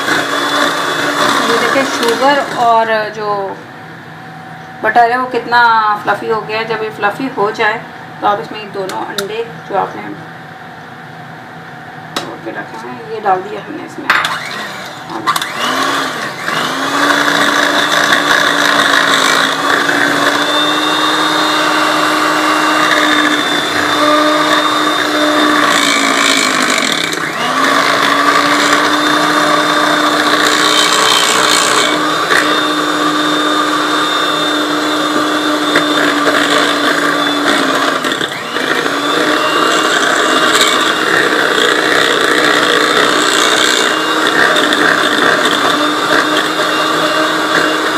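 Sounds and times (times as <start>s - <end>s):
electric mixer running: 0.0s - 3.5s, 12.1s - 47.9s.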